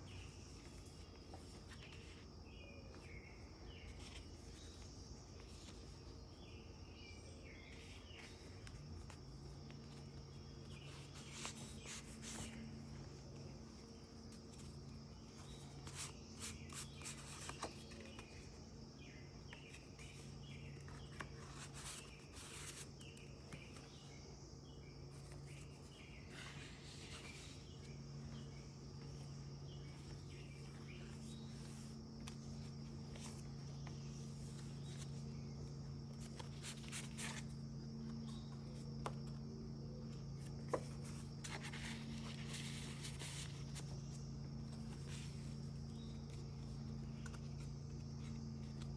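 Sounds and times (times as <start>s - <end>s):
paper pages rustling: 0.0s - 6.4s, 7.6s - 24.2s, 25.1s - 48.9s
steady low hum: 0.0s - 48.9s.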